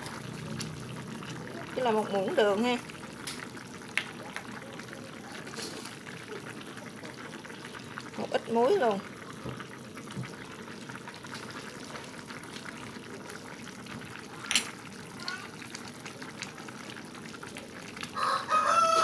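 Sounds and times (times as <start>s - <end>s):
pot of vegetables boiling: 0.0s - 19.0s.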